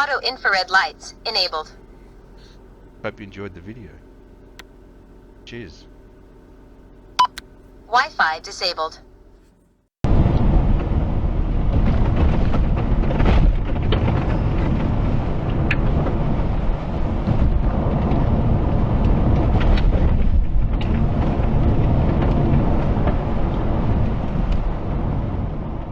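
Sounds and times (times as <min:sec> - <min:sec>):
tyres and suspension rumbling: 0:00.0 - 0:09.4, 0:10.1 - 0:25.9.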